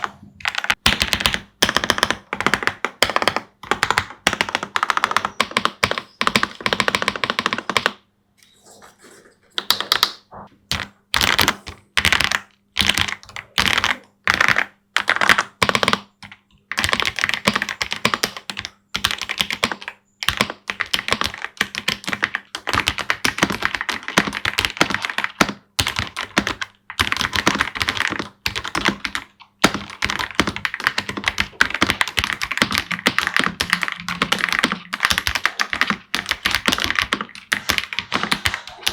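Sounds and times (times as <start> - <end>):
typing on mechanical keyboard: 0.0 - 8.0, 9.6 - 38.9.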